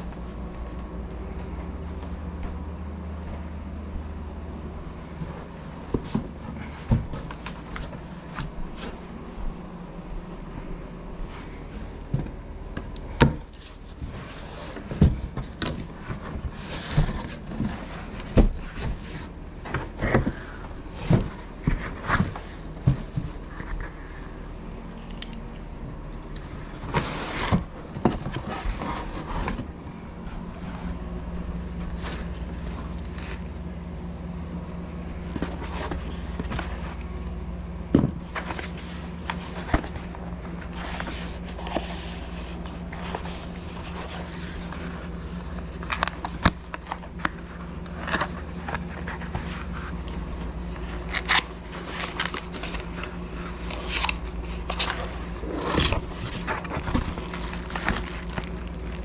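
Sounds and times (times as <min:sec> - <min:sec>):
steady low hum: 0:00.0 - 0:59.0
computer box being handled: 0:05.1 - 0:09.2, 0:11.2 - 0:24.5, 0:26.1 - 0:33.6, 0:35.2 - 0:59.0.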